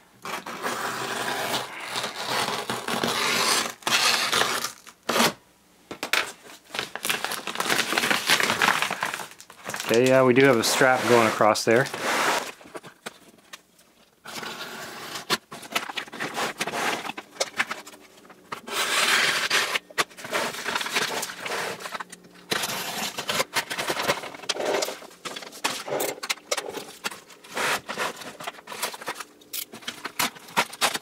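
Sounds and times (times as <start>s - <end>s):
wrapping crinkling and tearing: 0.2s - 5.3s, 6.1s - 31.0s.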